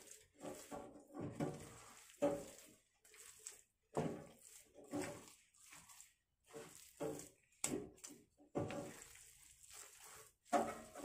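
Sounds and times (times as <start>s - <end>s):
spatula working thick batter in pan: 0.0s - 11.0s.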